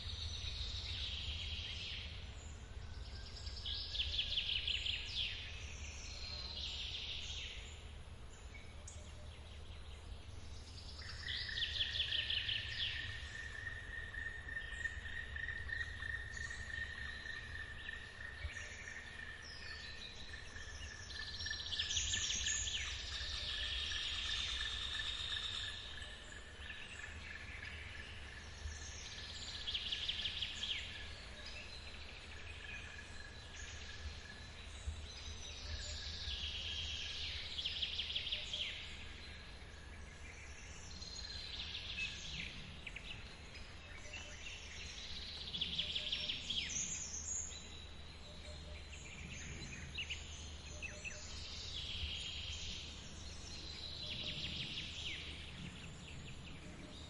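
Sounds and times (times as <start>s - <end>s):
thin insect drone: 10.8s - 57.0s.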